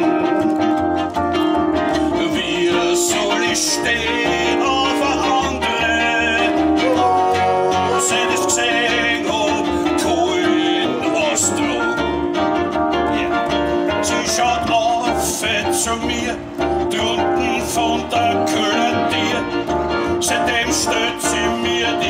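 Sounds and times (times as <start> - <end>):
man singing into a microphone: 0.0 - 0.5, 1.9 - 12.2, 13.0 - 22.0
electric keyboard: 0.0 - 22.0
plucked double bass: 0.0 - 22.0.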